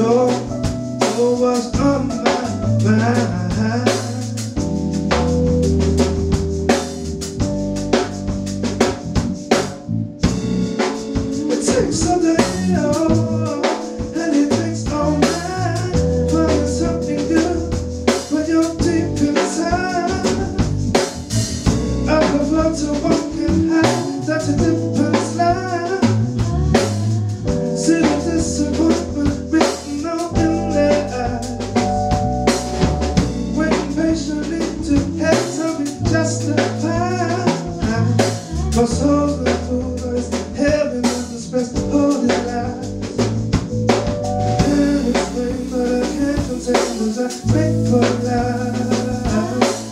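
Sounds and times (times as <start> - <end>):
bass line: 0.0 - 49.9
drum kit: 0.0 - 49.9
keyboard and guitar melody: 0.0 - 49.9
live band playing soul tune: 0.0 - 49.9.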